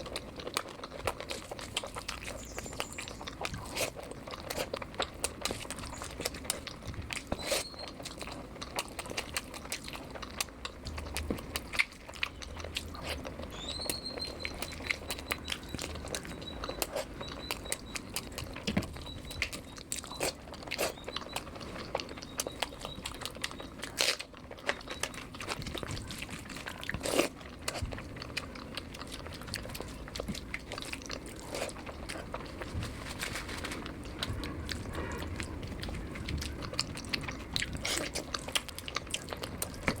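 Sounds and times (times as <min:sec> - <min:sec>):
chewing and biting: 0:00.0 - 0:40.0.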